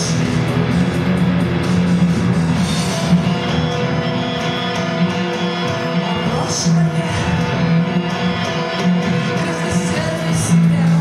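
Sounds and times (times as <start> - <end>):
keyboard sustained chords: 0.0 - 11.0
steady drum beat: 0.0 - 11.0.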